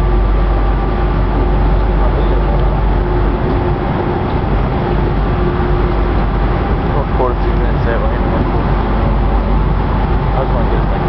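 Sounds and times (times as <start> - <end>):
diesel engines droning: 0.0 - 11.0
wind on microphone: 0.0 - 11.0.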